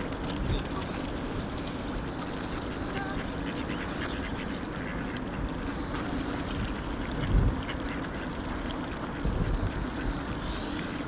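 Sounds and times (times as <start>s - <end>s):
ducks quacking: 1.9s - 11.0s.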